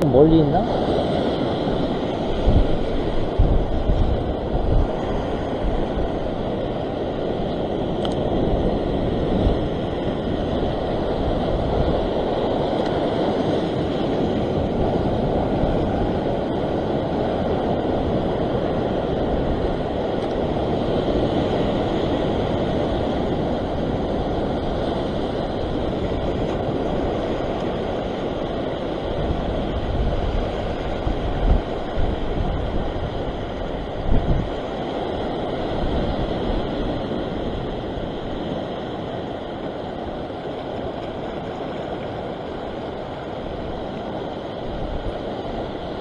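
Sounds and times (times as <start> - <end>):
surf washing across rocks: 0.0 - 46.0.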